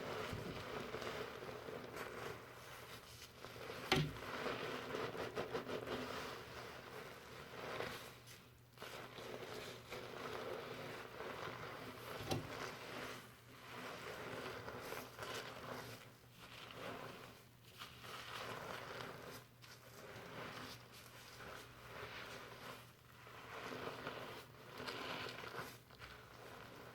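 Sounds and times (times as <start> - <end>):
fingers scrubbing lather in hair: 0.0 - 26.9.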